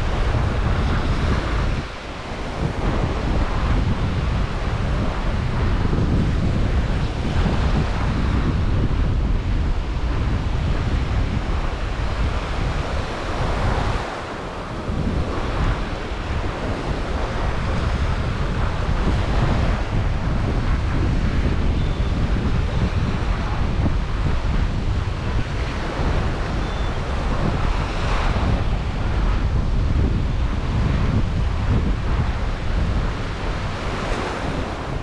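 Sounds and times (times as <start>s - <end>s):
surf washing onto beach: 0.0s - 35.0s
wind buffeting microphone: 0.0s - 35.0s.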